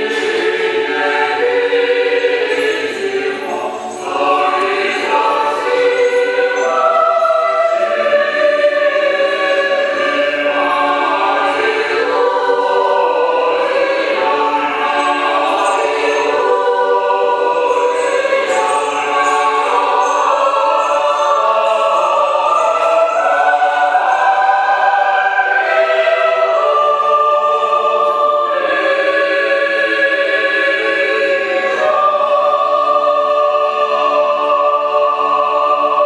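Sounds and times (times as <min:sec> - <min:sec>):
choir singing in harmony: 0:00.0 - 0:36.0.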